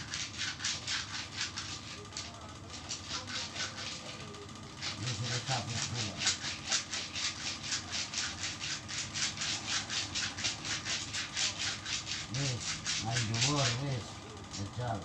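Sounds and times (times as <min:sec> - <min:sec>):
hands rubbing on skin: 0:00.0 - 0:13.9.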